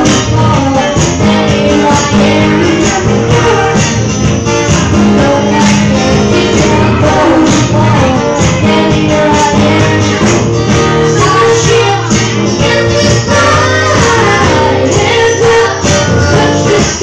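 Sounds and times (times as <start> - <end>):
people singing into microphones: 0.0 - 17.0
percussion hits: 0.0 - 17.0.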